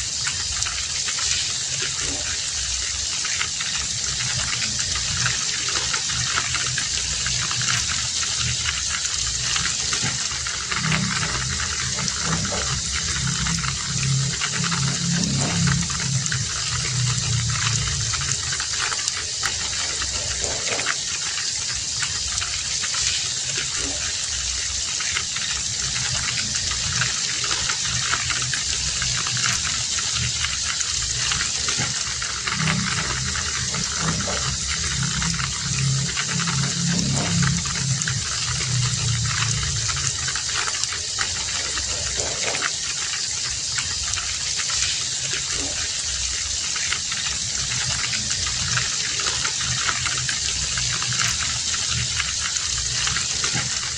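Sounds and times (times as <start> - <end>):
heavy rain falling: 0.0 - 53.9
low hum: 0.5 - 22.9, 23.5 - 53.9.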